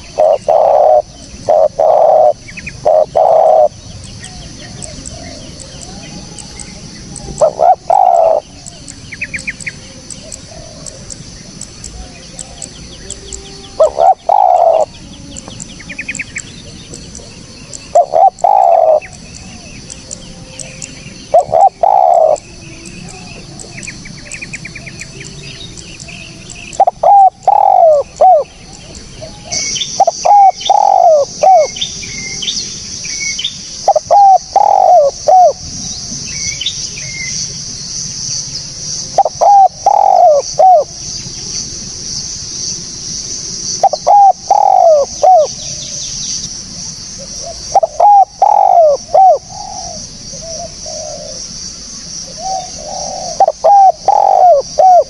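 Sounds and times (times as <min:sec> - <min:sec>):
dove cooing: 0:00.0 - 0:32.6, 0:33.8 - 0:36.3, 0:39.0 - 0:41.6, 0:43.8 - 0:46.1, 0:47.2 - 0:51.6, 0:52.2 - 0:55.0
high-pitched hiss: 0:00.0 - 0:55.0
small birds chirping: 0:00.0 - 0:55.0.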